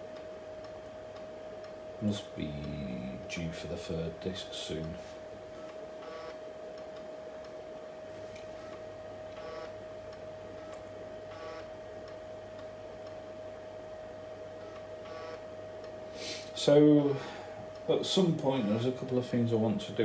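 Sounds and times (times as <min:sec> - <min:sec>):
floppy drive buzzing: 0:00.0 - 0:20.0.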